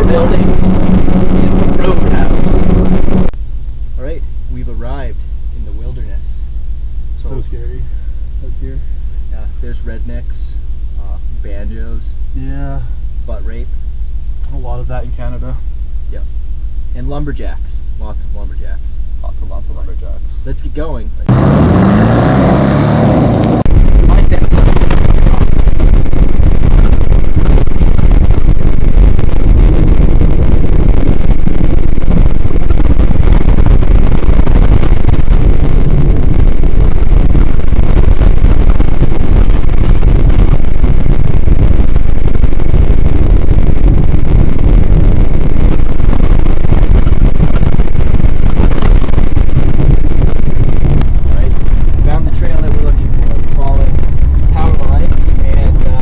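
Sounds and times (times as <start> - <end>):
distorted engine and road noise: 0.0 - 56.0.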